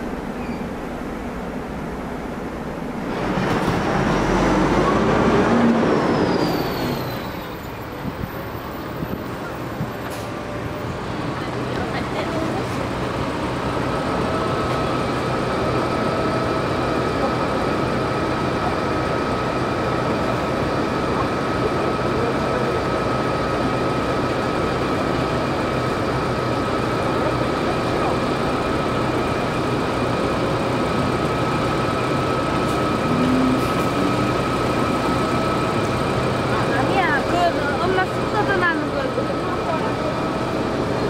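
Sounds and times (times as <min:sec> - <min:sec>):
bus engine idling: 0:00.0 - 0:41.0.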